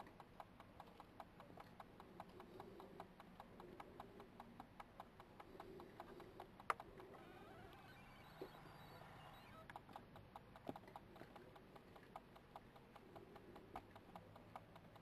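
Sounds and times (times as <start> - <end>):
animals chewing with crunching clicks: 0.0 - 15.0.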